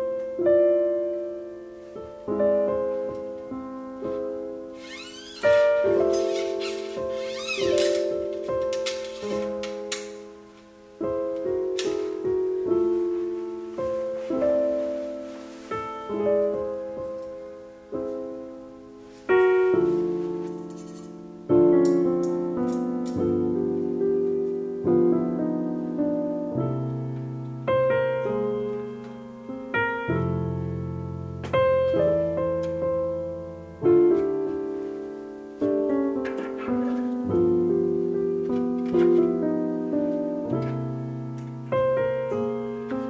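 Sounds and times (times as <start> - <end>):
slow piano music: 0.0 - 43.0.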